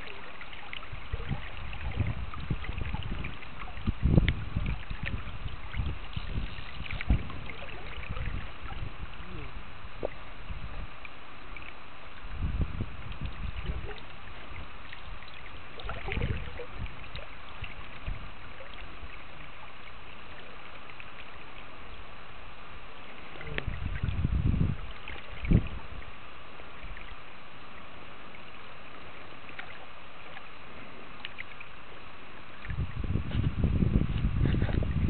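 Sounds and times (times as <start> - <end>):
low rumbles on microphone: 0.0 - 20.8, 23.0 - 31.2, 31.8 - 35.0.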